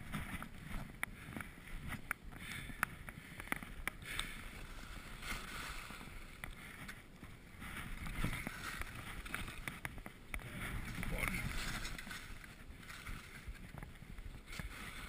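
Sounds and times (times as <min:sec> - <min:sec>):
skis scraping through snow: 0:00.0 - 0:15.0.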